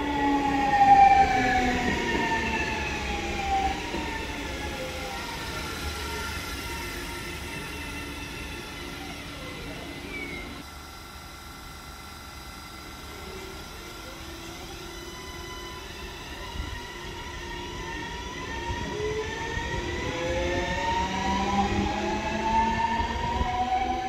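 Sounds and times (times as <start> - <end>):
electric train motors whining: 0.0 - 24.0
low train rumble: 0.0 - 24.0.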